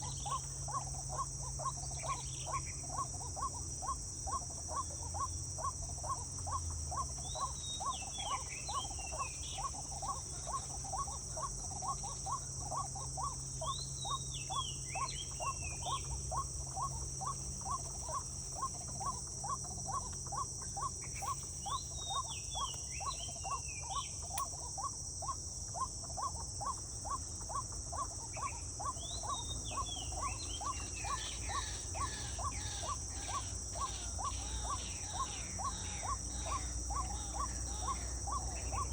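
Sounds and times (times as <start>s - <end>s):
high insect drone: 0.0s - 38.9s
regular pulsing call: 0.0s - 38.9s.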